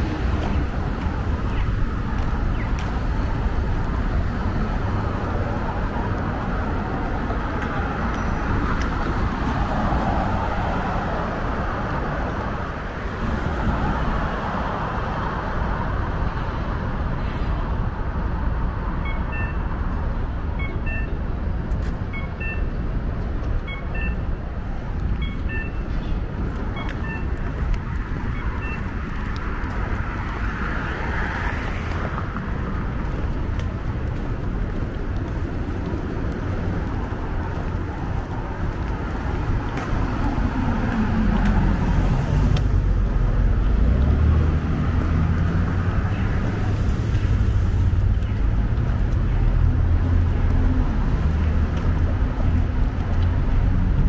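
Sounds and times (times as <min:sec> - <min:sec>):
traffic rumble: 0:00.0 - 0:54.0.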